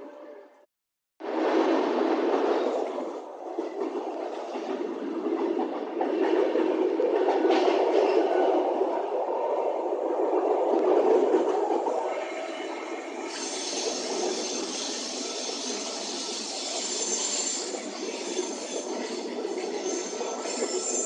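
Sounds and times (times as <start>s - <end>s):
train rumbling on rails: 1.2s - 21.0s.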